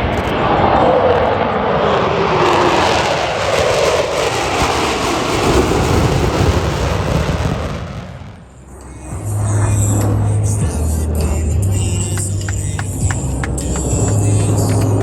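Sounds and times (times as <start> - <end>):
airplane flying past: 0.0 - 15.0.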